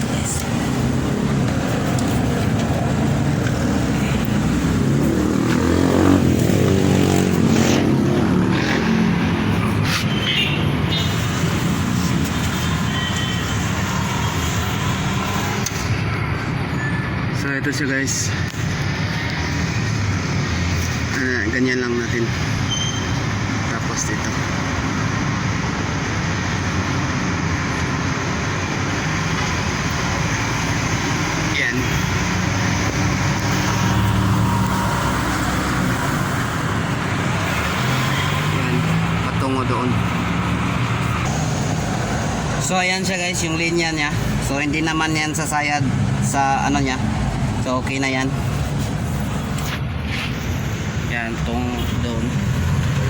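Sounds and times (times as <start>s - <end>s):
vehicle passing: 0.0s - 12.9s, 13.6s - 53.0s
traffic rumble: 0.0s - 53.0s.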